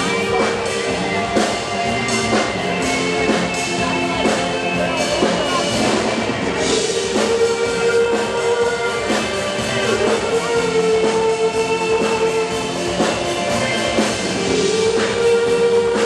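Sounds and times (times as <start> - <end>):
drum kit beat: 0.0 - 16.0
guitar chords: 0.0 - 16.0
live rock band playing: 0.0 - 16.0.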